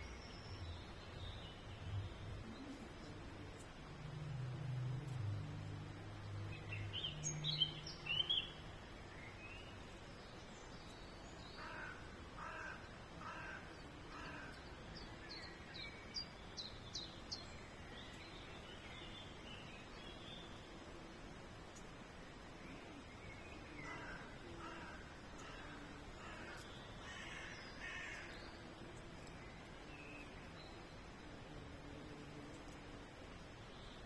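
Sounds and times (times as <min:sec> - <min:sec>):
birds chirping: 0:00.0 - 0:20.7, 0:22.6 - 0:31.4
low steady hum: 0:00.0 - 0:34.0.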